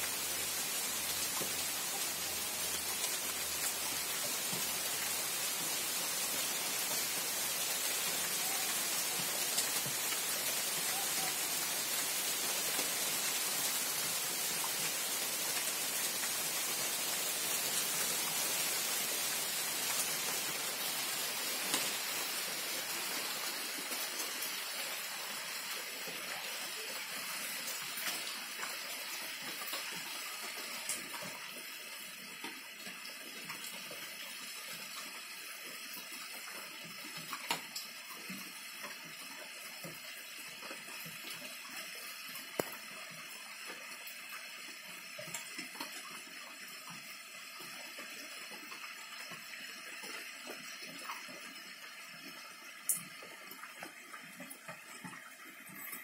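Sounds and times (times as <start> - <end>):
rain falling on foliage: 0.0 - 56.0.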